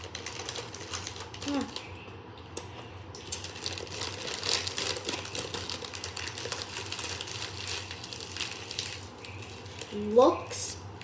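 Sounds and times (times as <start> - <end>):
plastic wrapper crinkling: 0.0 - 10.3.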